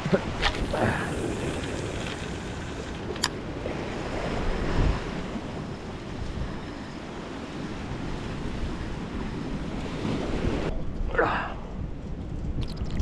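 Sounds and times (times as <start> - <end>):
surf washing on rocky shore: 0.0 - 10.7
wind buffeting microphone: 0.0 - 13.0.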